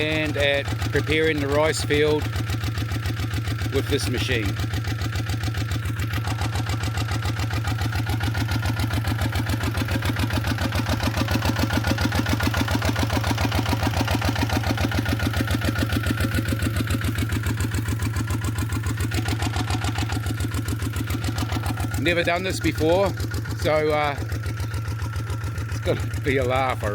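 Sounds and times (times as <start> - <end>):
diesel engine chugging: 0.0 - 26.9.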